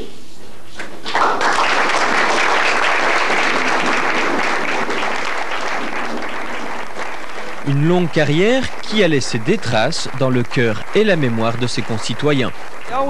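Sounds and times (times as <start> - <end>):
people applauding: 1.0 - 13.0.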